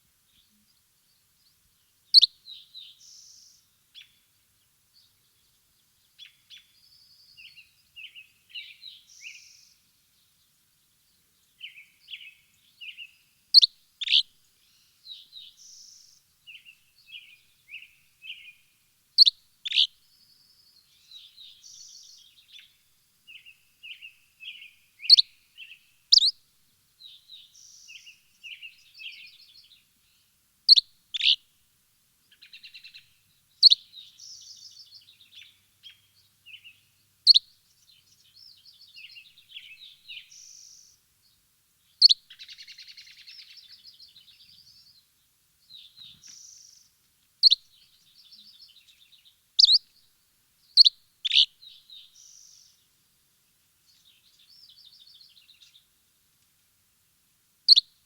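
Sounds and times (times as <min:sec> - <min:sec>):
songbirds chirping: 0:00.0 - 0:57.1, 0:57.7 - 0:58.0.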